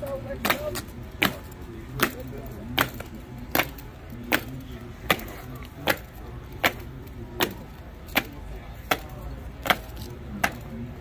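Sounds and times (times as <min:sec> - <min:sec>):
boots marching on stone: 0:00.0 - 0:11.0.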